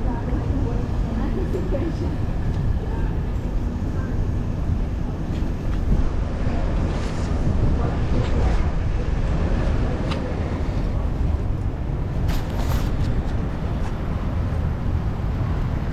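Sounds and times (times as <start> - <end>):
road and traffic noise: 0.0 - 15.9
wind rumbling on microphone: 0.0 - 15.9.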